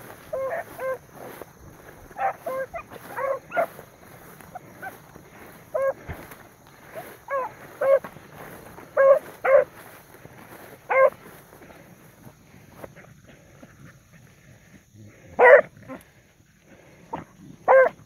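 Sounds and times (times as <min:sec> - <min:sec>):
dogs baying: 0:00.0 - 0:11.9, 0:12.5 - 0:18.0.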